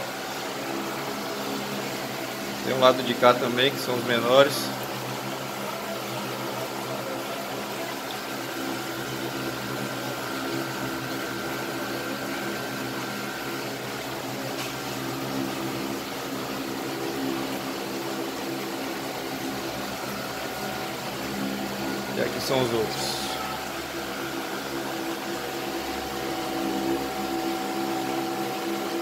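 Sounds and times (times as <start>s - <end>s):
aquarium pumps humming: 0.0s - 29.0s.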